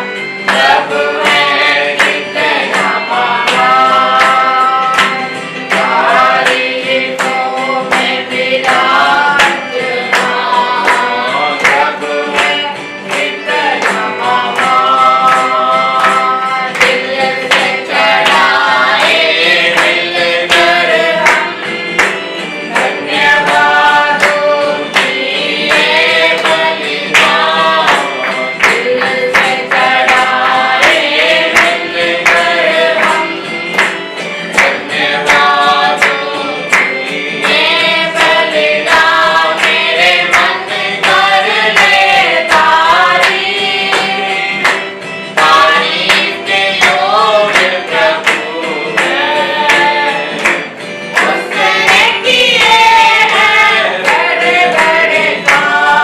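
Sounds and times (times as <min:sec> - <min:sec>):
instrumental backing: 0:00.0 - 0:56.0
percussion beat: 0:00.0 - 0:56.0
voices singing: 0:00.0 - 0:56.0.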